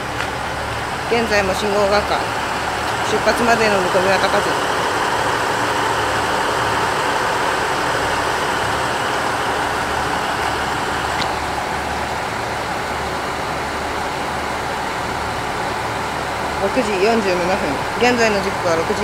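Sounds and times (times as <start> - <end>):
train diesel engines idling: 0.0 - 19.0.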